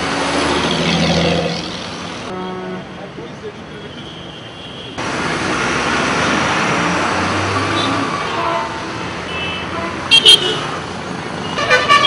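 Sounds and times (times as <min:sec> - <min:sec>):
road traffic rushing past: 0:00.0 - 0:12.0.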